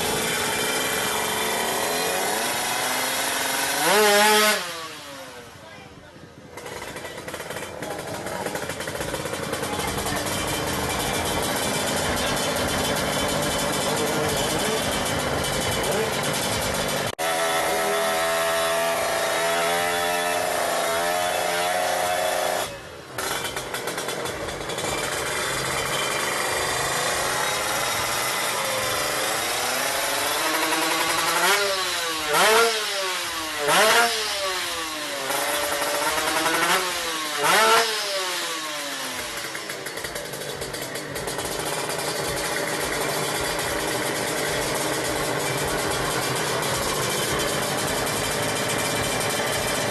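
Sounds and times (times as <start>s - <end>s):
motorcycle engine idling: 4.9s - 49.9s.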